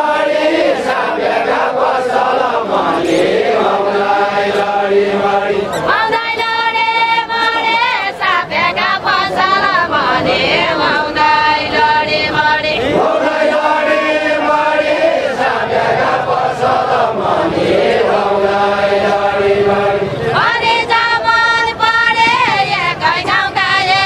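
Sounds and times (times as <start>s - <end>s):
group of men and women singing: 0.0s - 24.0s.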